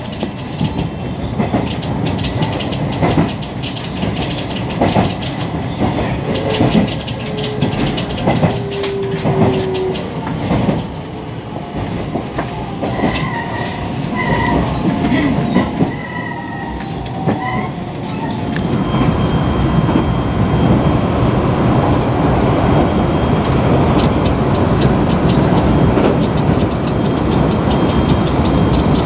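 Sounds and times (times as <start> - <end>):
train wheels clicking over rail joints: 0.0 - 20.8, 22.8 - 29.0.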